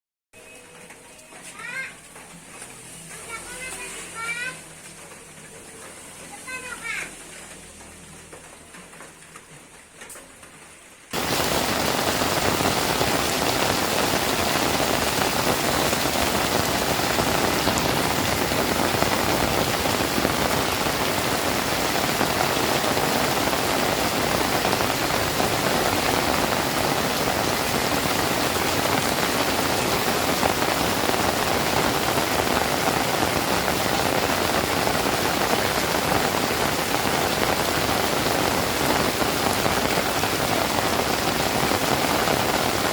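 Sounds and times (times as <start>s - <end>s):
steady rain falling: 0.4s - 42.9s.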